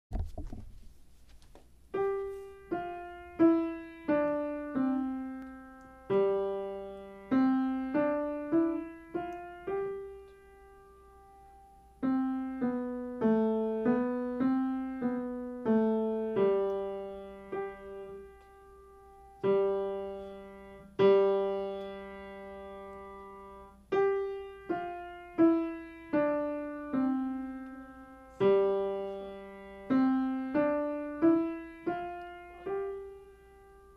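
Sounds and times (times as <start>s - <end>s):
piano melody: 1.9s - 33.9s.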